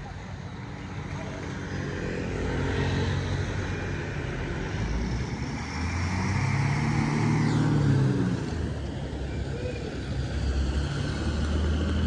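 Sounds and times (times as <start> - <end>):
traffic noise: 0.0 - 12.0
vehicle engine drone: 0.0 - 12.0.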